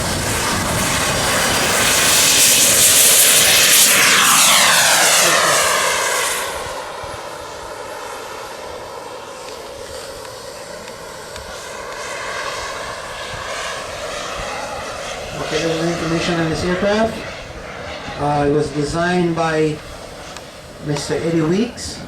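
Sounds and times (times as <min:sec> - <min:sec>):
model jet engine roar: 0:00.0 - 0:22.0.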